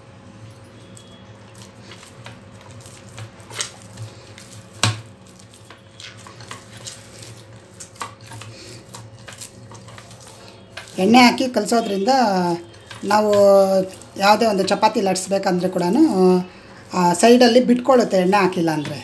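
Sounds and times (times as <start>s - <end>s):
dough squishing: 0.8s - 19.0s.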